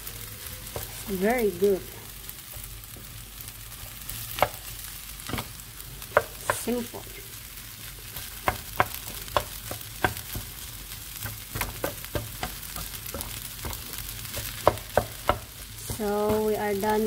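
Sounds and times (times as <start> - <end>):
rice sizzling in a frying pan: 0.0 - 17.0.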